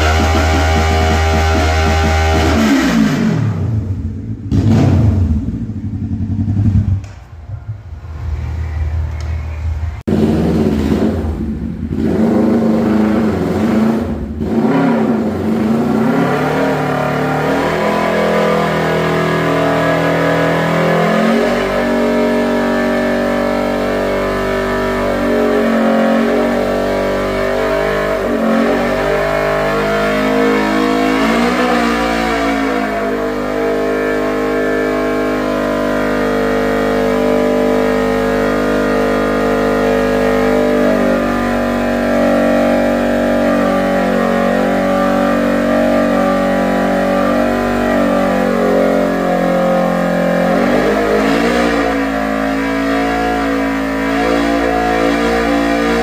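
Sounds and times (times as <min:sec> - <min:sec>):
motorcycle engine revving hard: 0:00.0 - 0:07.0, 0:10.1 - 0:56.0.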